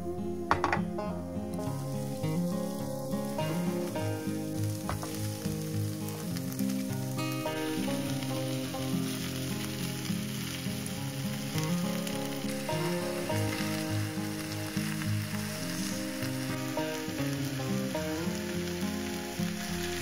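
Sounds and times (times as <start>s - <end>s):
soft background music: 0.0s - 20.0s
food sizzling in oil: 0.4s - 20.0s.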